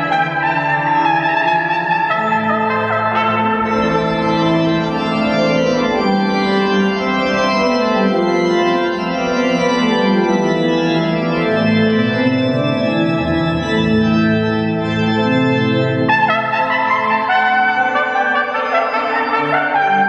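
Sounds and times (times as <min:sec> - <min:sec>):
church organ chords: 0:00.0 - 0:20.0.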